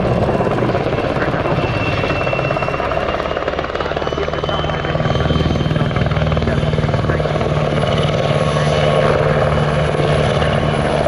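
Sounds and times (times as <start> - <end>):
helicopter rotor chop: 0.0 - 11.0
high turbine whine: 0.0 - 11.0.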